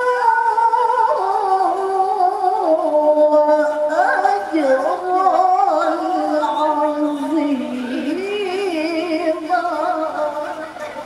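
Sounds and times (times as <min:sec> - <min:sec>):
woman reciting melodically: 0:00.0 - 0:11.0.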